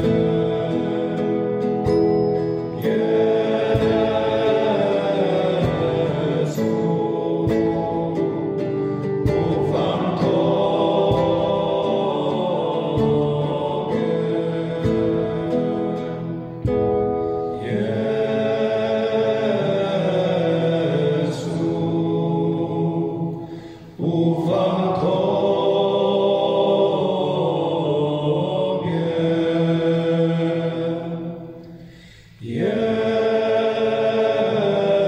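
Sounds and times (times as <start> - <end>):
men singing a chant-like song: 0.0 - 35.0.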